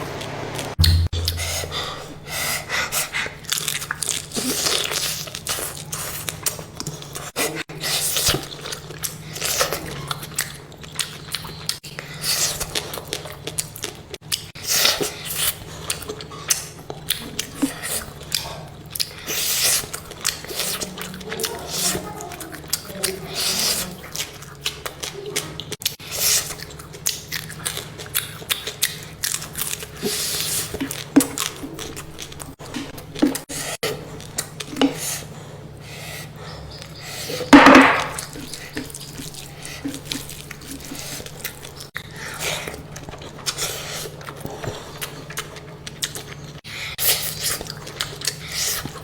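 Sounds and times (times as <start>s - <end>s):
person chewing: 0.8s - 49.0s.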